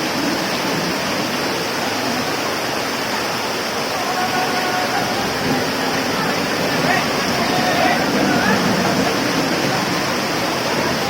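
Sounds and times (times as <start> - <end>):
rainwater rushing on street: 0.0 - 11.0.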